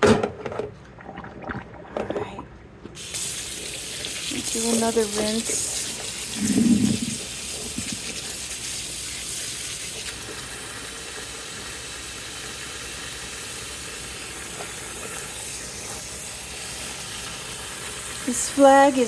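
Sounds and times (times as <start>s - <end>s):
tap water running into sink: 3.0s - 19.0s.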